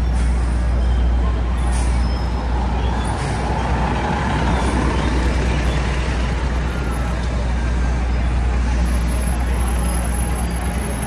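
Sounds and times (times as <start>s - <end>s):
heavy vehicle engine rumbling: 0.0s - 11.0s
street traffic: 0.0s - 11.0s.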